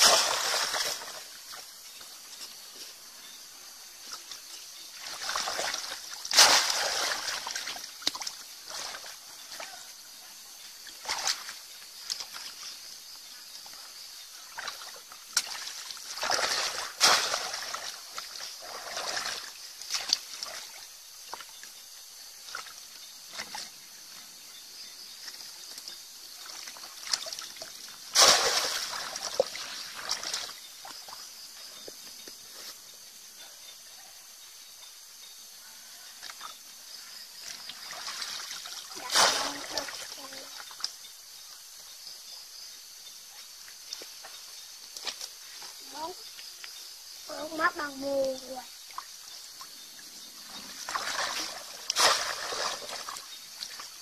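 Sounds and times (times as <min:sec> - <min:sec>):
pond water splashing and sloshing: 0:00.0 - 0:33.9, 0:36.0 - 0:54.0.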